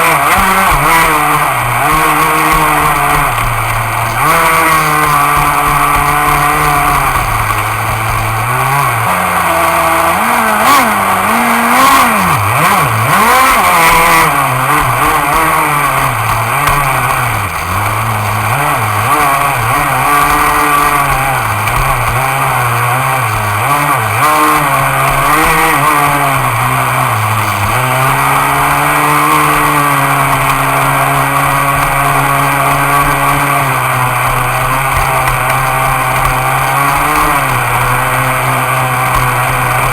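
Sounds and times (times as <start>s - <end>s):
model boat engine revving: 0.0s - 39.9s.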